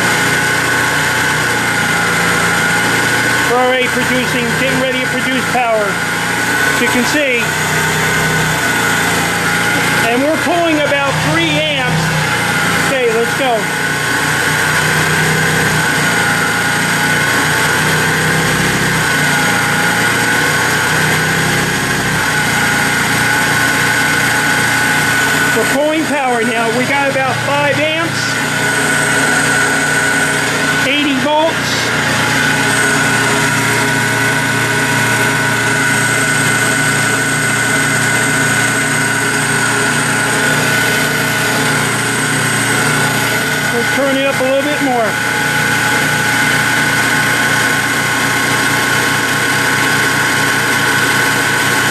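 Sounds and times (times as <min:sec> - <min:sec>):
electric motor whining: 0:00.0 - 0:51.9
generator hum: 0:00.0 - 0:51.9.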